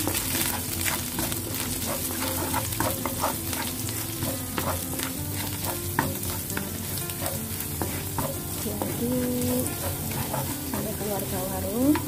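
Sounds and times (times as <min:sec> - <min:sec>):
garlic sizzling in hot oil: 0:00.0 - 0:12.0
spatula scraping and tapping pan: 0:00.0 - 0:12.0.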